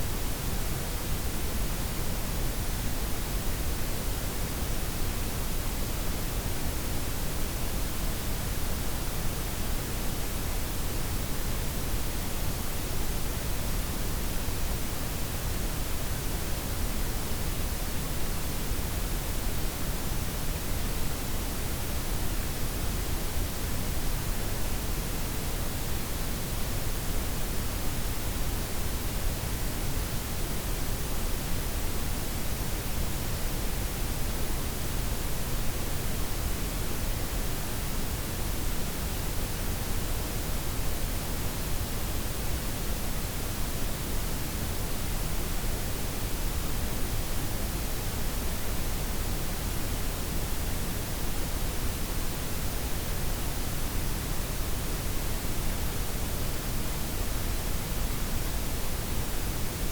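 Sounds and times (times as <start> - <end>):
steady noise hiss with deep rumble: 0.0 - 59.9.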